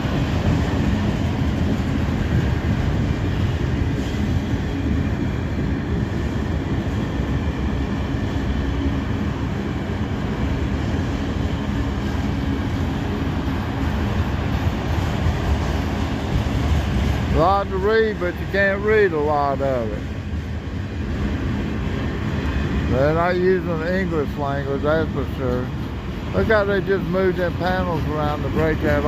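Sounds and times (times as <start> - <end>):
steel train wheels rumbling on rail: 0.0 - 29.0.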